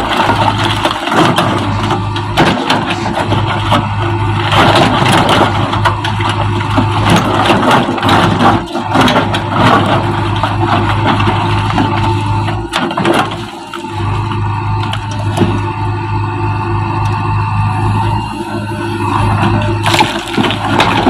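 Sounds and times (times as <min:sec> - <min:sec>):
debris crunching and clattering: 0:00.0 - 0:15.7, 0:19.4 - 0:21.0
diesel engine running: 0:00.0 - 0:21.0.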